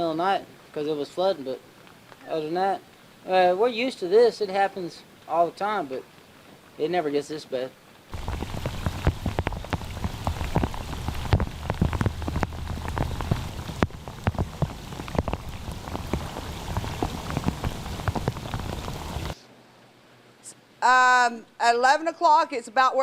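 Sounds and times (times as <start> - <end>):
rain drops splattering: 0.0 - 19.4.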